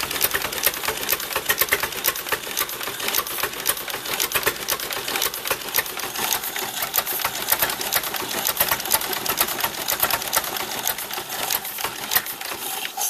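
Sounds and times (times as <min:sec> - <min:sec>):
engine idling with clatter: 0:00.0 - 0:13.0.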